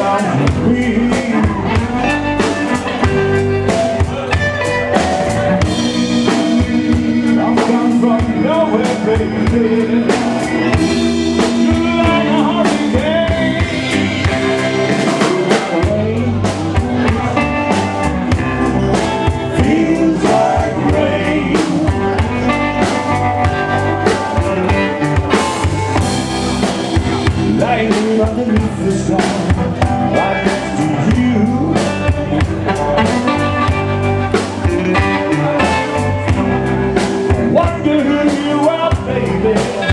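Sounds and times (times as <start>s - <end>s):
bass guitar: 0.0s - 39.9s
drum kit: 0.0s - 39.9s
electric guitar: 0.0s - 39.9s
keyboard: 0.0s - 39.9s
person singing: 0.0s - 39.9s.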